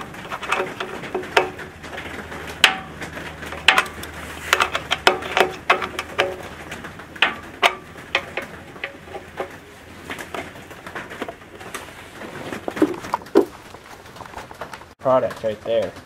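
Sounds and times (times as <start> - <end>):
sharp clicks and knocks: 0.0 - 16.0.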